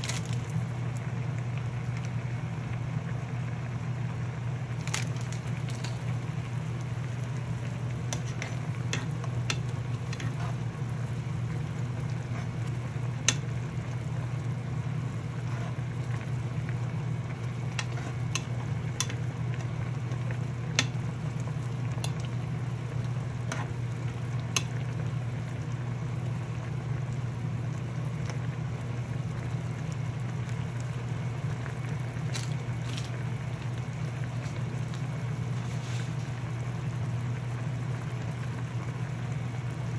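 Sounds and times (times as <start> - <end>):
steady cooking noise: 0.0 - 39.9.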